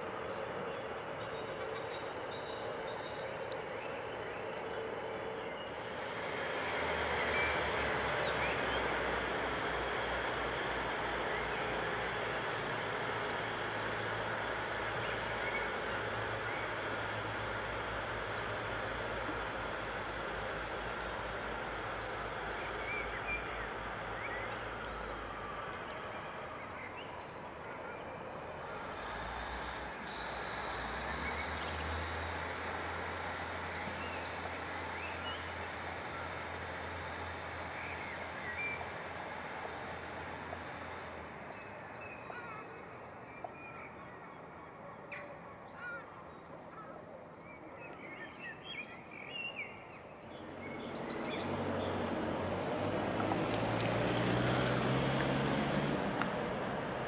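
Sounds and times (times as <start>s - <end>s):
vehicle rumble: 0.0s - 44.9s, 50.0s - 57.0s
birds chirping: 0.0s - 57.0s
distant background noise: 0.0s - 57.0s
low engine hum: 0.0s - 57.0s.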